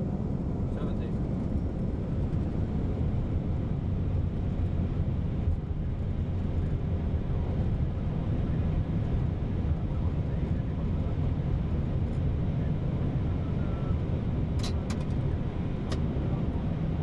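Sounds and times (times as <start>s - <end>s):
wheels rumbling on runway: 0.0s - 17.0s.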